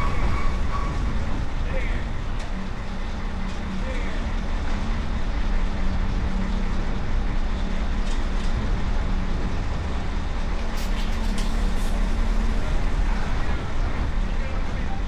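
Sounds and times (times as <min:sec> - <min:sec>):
engine running with low hum: 0:01.0 - 0:15.0.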